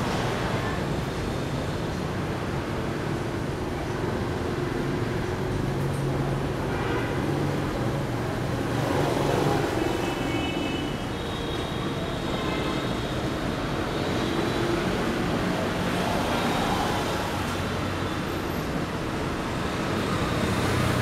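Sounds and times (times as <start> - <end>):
vehicles passing on wet road: 0.0 - 21.0.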